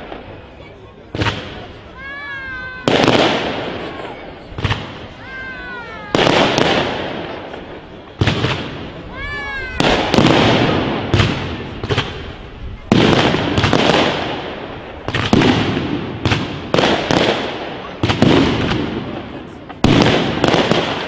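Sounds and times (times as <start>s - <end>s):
fireworks bangs echoing: 0.0s - 21.0s
whistling rockets: 0.0s - 21.0s.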